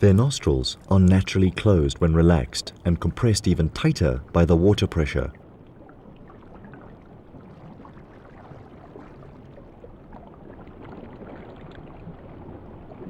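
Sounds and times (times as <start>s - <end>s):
underwater water wash: 0.0s - 13.0s.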